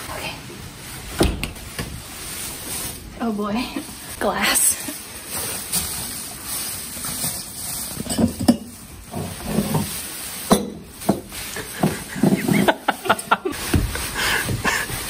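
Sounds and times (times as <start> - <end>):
bubble wrap crinkling: 0.7 - 15.0.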